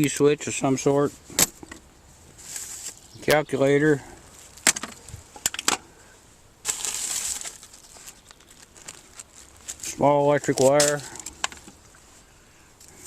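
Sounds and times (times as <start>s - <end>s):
rustling: 1.1s - 3.4s, 4.2s - 13.0s.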